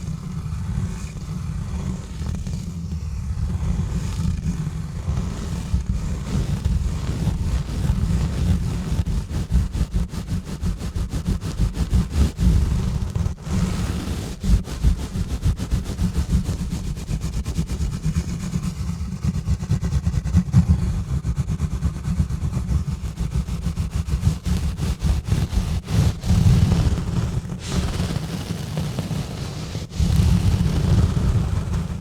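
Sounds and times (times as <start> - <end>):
gloves scrubbing on microphone: 5.2 - 32.0.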